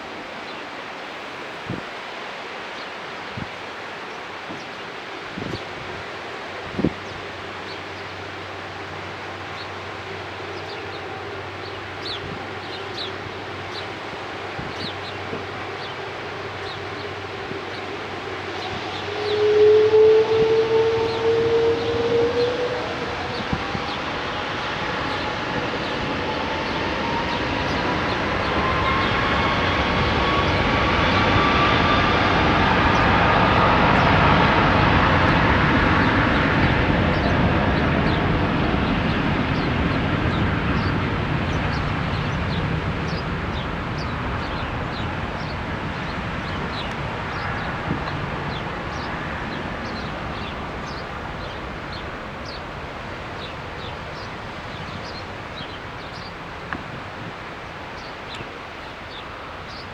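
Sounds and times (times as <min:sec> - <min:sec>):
jet engines taking off: 0:00.0 - 0:59.9.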